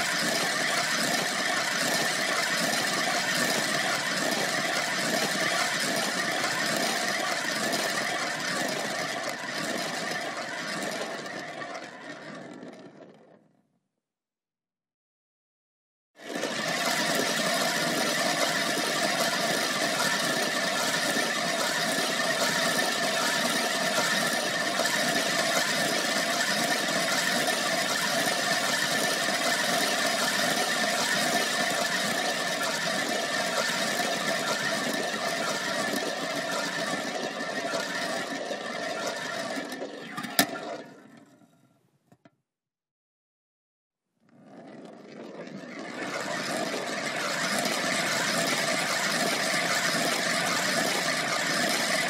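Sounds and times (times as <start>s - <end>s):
marble rolling: 0.0s - 13.5s, 16.2s - 42.3s, 44.2s - 52.0s.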